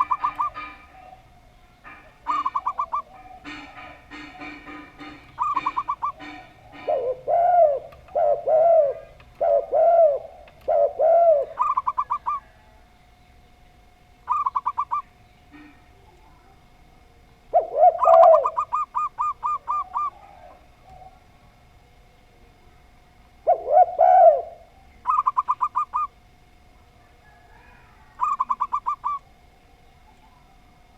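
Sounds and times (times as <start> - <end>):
doves cooing: 0.0 - 30.9.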